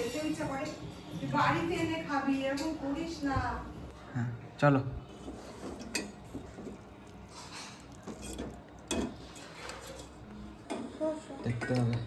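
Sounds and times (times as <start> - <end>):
dishes and utensils clinking: 0.0 - 3.2, 5.1 - 12.0.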